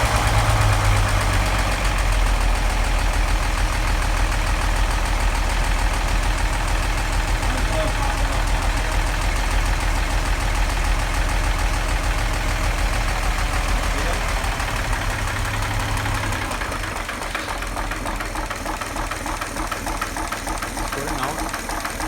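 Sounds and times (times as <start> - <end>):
car engine idling with knock: 0.0 - 22.0.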